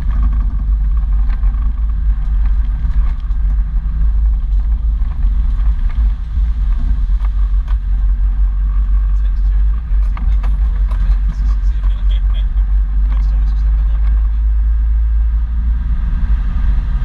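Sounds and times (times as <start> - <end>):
vehicle engine rumble: 0.0 - 17.0
wind on microphone: 0.0 - 17.0.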